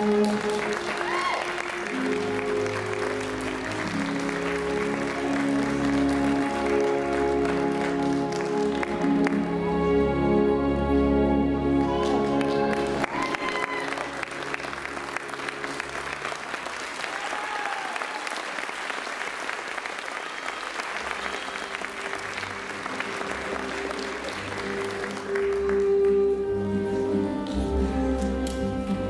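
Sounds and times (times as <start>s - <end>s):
audience applauding: 0.0s - 9.7s, 11.7s - 26.5s
music: 0.0s - 17.1s, 20.8s - 29.0s.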